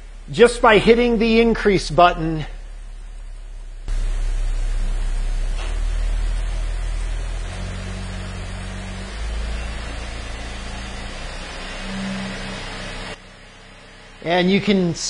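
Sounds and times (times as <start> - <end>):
car engine revving in steps: 0.0 - 15.0.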